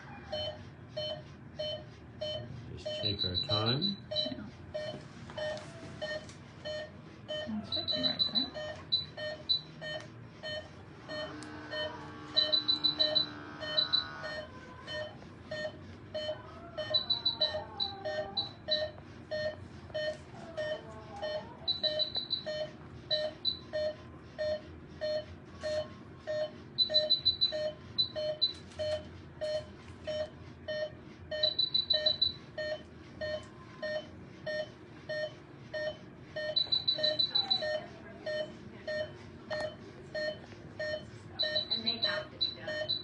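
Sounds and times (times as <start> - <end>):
patient monitor beeping: 0.0 - 43.0
rapid high-pitched alarm beeps: 0.0 - 43.0.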